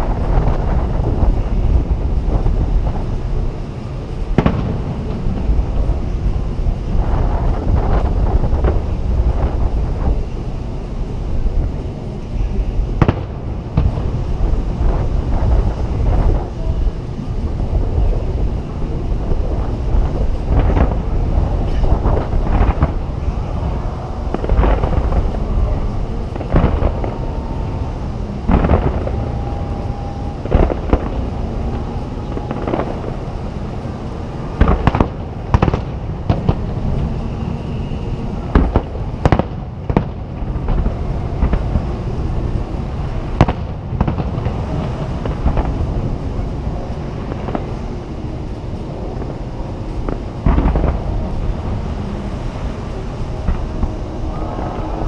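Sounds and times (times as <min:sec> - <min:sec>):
fireworks booming with echo: 0:00.0 - 0:55.0
steady background rumble: 0:00.0 - 0:55.0.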